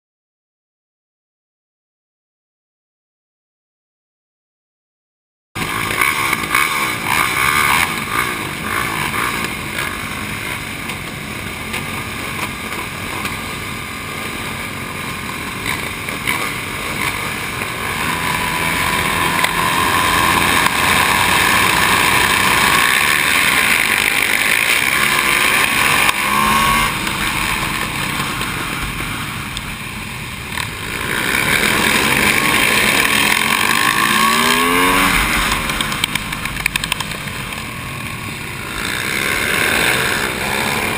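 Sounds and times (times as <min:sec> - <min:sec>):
race motorcycles revving: 0:05.6 - 0:40.9.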